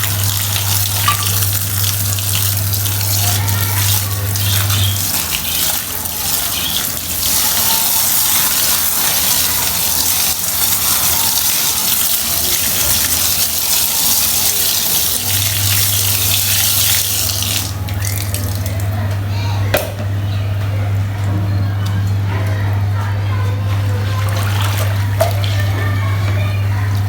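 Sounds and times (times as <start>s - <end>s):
low motor hum: 0.0s - 27.0s.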